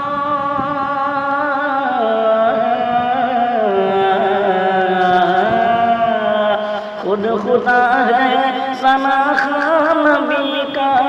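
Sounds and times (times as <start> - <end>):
person singing a long note: 0.0 - 11.0.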